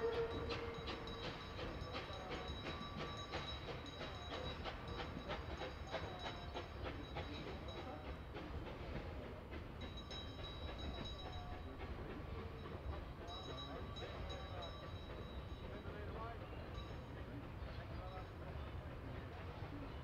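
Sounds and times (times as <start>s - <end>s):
low train rumble: 0.0s - 20.0s
train carriages clicking over rail joints: 0.0s - 20.0s.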